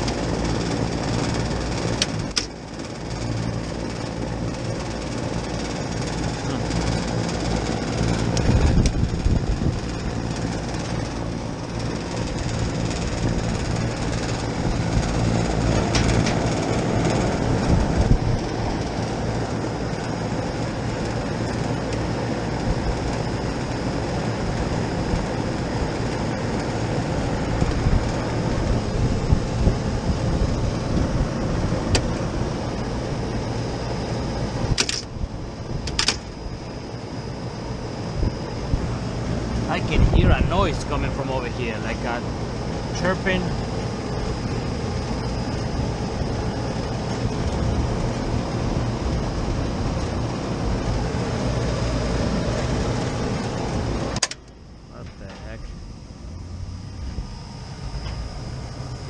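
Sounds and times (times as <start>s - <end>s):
hvac motor hum: 0.0s - 59.0s.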